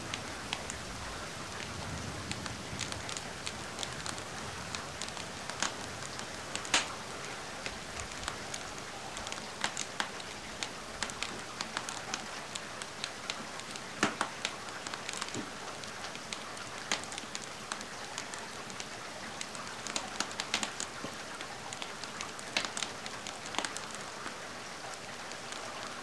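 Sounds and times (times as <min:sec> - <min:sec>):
steady rain hiss: 0:00.0 - 0:26.0
wood fire crackling and popping: 0:00.0 - 0:26.0.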